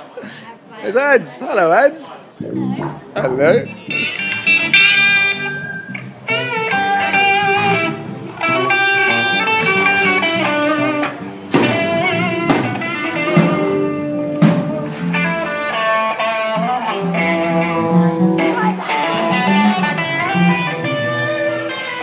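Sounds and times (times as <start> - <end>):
electric guitar: 2.4 - 22.0
live blues rock band: 2.4 - 22.0.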